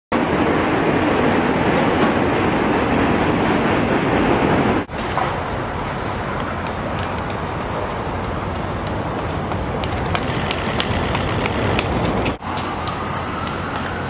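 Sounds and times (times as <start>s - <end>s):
street ambience rushing: 0.1s - 14.0s.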